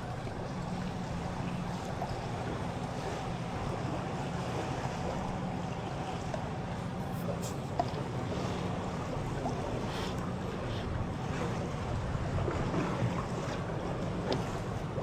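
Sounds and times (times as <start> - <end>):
outboard motor humming: 0.0 - 15.0
water noise: 0.0 - 15.0
wind: 0.0 - 15.0.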